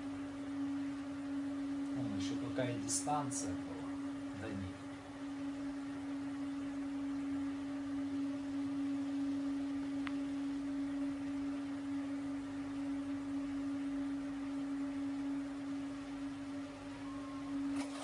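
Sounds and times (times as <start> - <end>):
low electronic hum: 0.0 - 18.0.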